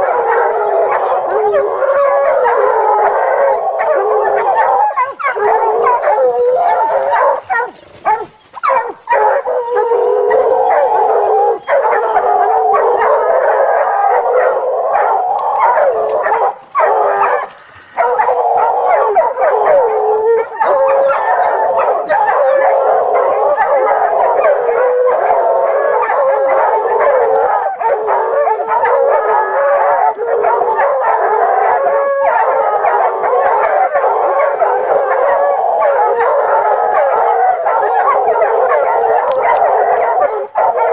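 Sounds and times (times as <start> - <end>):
dog baying and howling: 0.0 - 40.9.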